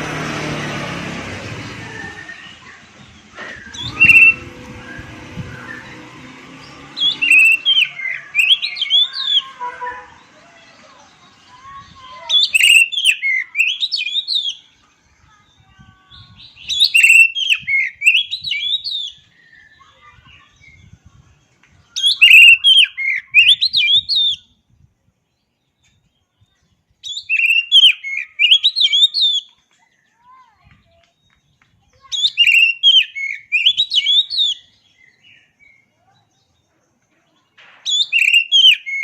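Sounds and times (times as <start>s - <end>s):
songbird singing quick phrases: 1.9s - 39.0s.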